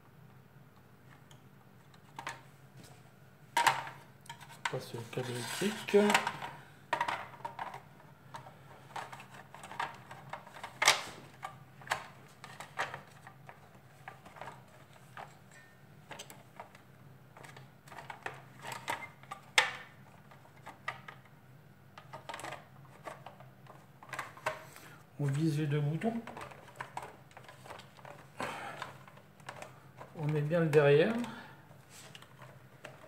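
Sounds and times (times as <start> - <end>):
plastic parts clicking and knocking: 1.1 - 2.5, 3.6 - 24.7, 26.0 - 33.0.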